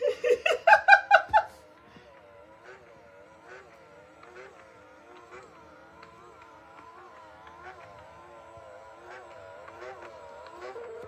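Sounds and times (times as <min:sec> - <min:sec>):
toy gear motor whirring: 0:01.6 - 0:11.0.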